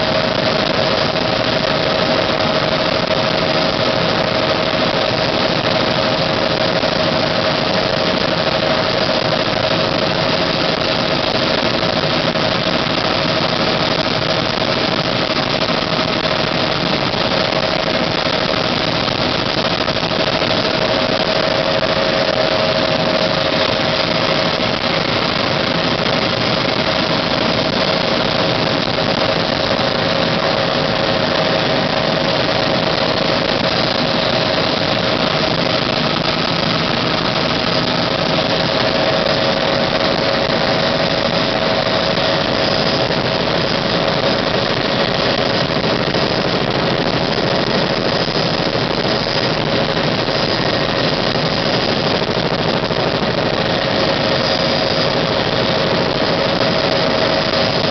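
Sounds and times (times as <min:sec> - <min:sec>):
helicopter engine and rotors droning: 0:00.0 - 0:57.9.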